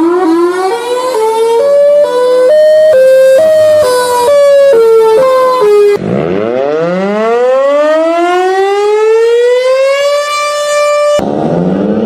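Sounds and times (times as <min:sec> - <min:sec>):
two-tone warning siren: 0:00.0 - 0:12.0.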